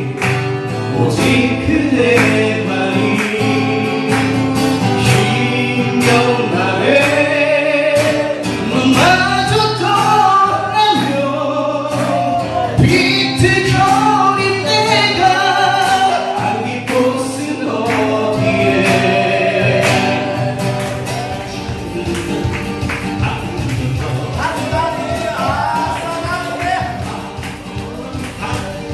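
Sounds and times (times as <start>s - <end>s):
group of people singing: 0.0s - 28.9s
strummed acoustic guitars: 0.0s - 28.9s.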